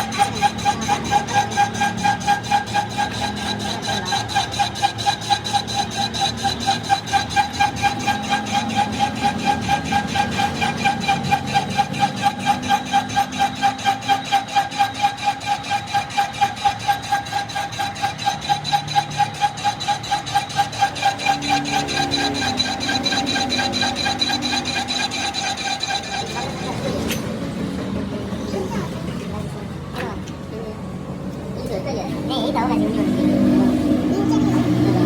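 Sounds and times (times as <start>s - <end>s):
machine pulsing ringing tone: 0.0s - 28.5s.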